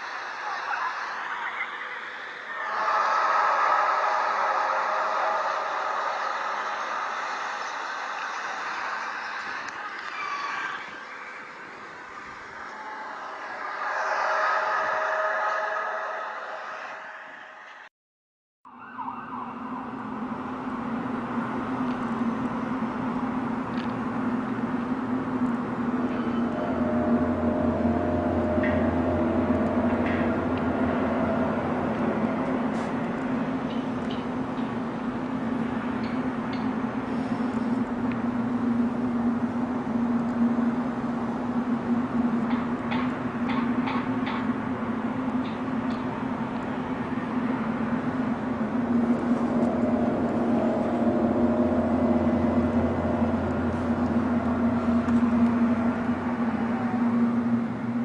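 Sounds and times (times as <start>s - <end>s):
constant rushing noise: 0.0s - 17.8s, 19.8s - 58.0s
steady droning hum: 0.0s - 17.9s, 19.6s - 58.0s.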